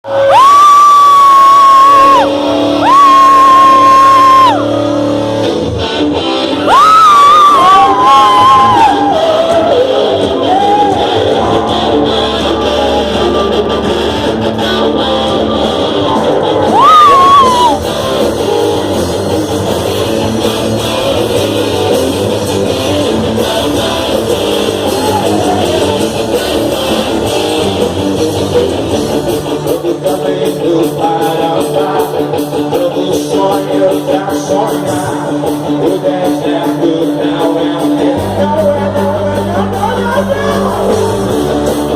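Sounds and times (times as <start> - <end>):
worship band playing: 0.1 - 41.9.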